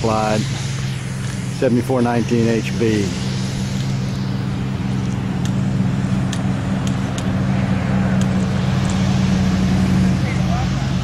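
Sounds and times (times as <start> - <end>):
light hiss: 0.0 - 10.8
low motor hum: 0.0 - 11.0.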